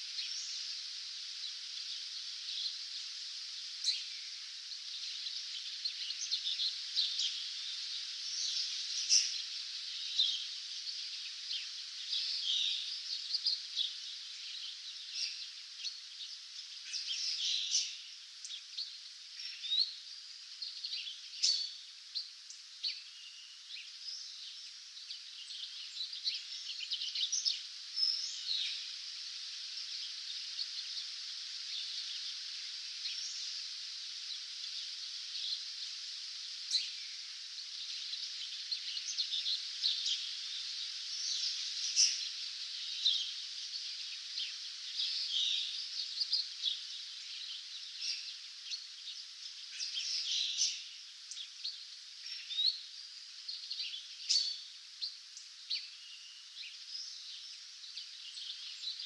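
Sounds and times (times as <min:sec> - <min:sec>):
songbirds chirping and trilling: 0:00.0 - 0:59.0
steady high hiss: 0:00.0 - 0:59.0.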